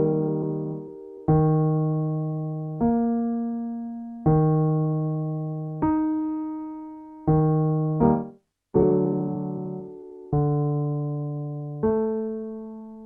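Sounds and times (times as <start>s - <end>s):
piano chord: 0.0s - 13.0s
piano single notes: 0.0s - 13.0s.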